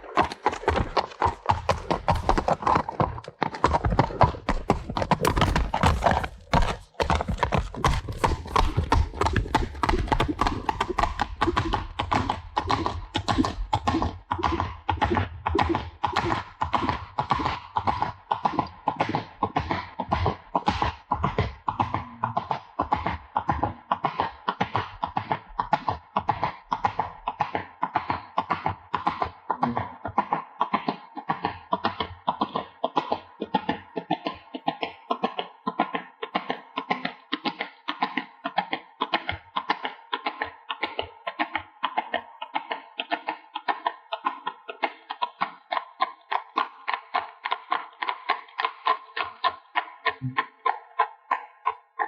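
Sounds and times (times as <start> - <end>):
horse hooves clopping: 0.0 - 52.0.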